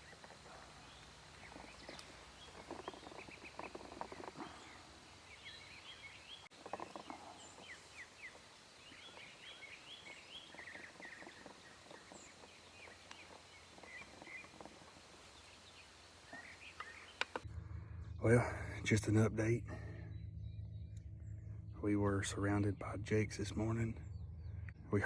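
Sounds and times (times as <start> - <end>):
low rattling bird call: 0.0 - 25.0
songbirds chirping and trilling: 0.0 - 25.0.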